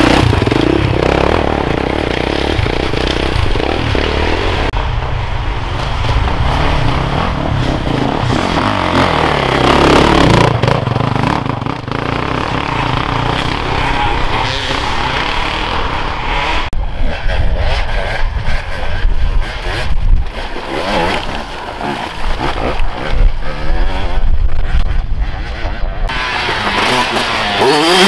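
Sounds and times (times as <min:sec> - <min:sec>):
dirt bike engine revving: 0:00.0 - 0:04.8, 0:05.8 - 0:28.0
second dirt bike engine revving: 0:00.0 - 0:04.8, 0:06.0 - 0:28.0.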